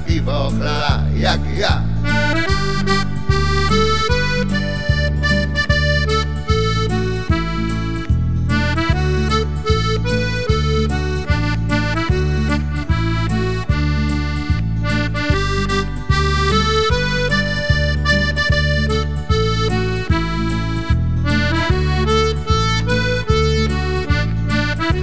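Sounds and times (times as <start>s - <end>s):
accordion playing folk tune: 0.0s - 25.0s.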